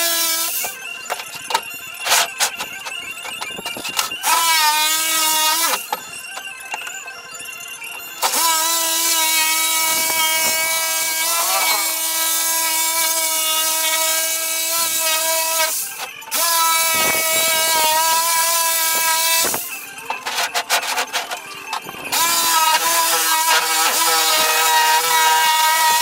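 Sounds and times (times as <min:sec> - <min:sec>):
reciprocating saw whining: 0:00.0 - 0:26.0.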